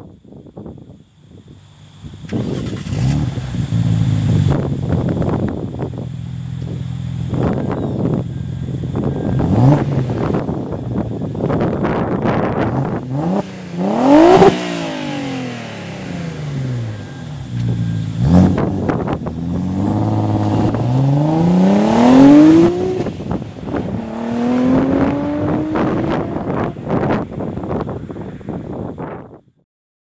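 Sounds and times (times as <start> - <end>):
car accelerating away: 2.2 - 5.3, 6.5 - 27.8
car engine revving: 2.2 - 28.2.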